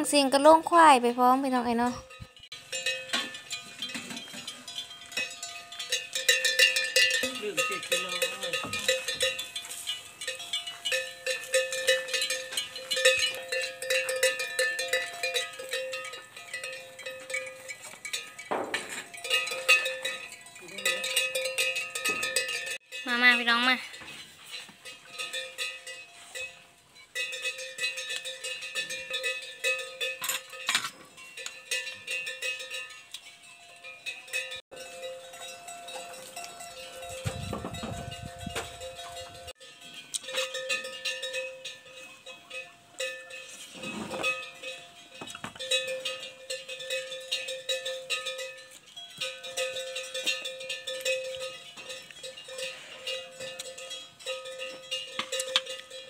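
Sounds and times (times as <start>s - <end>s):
buffalo bells clanking: 0.0s - 56.0s.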